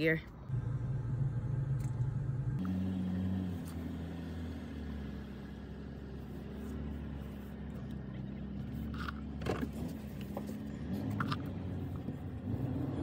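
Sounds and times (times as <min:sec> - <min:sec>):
car engine hum from inside: 0:00.0 - 0:13.0.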